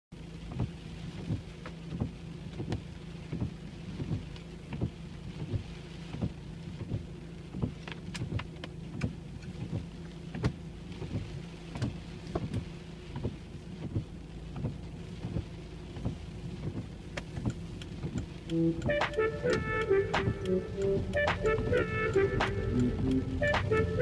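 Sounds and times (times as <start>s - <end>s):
low car hum: 0.1s - 24.0s
rain on a car: 0.1s - 24.0s
raindrops ticking on car body: 0.2s - 24.0s
soft regular thump: 0.5s - 23.8s.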